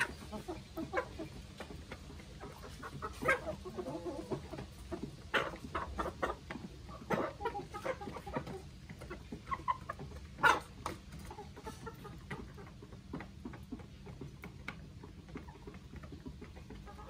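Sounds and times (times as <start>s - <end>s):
hens and roosters clucking: 0.0s - 17.0s.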